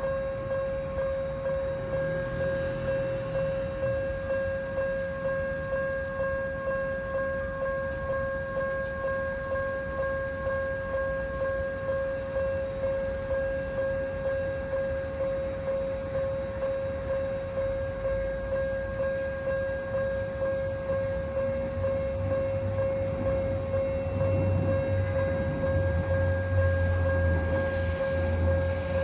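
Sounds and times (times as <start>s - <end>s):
level-crossing warning bell ringing: 0.0s - 29.0s.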